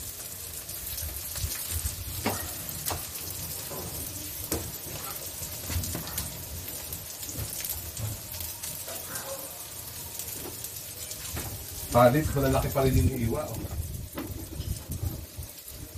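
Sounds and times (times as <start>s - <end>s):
garlic and onions sizzling in oil: 0.0s - 15.9s
oil popping and crackling: 0.0s - 15.9s.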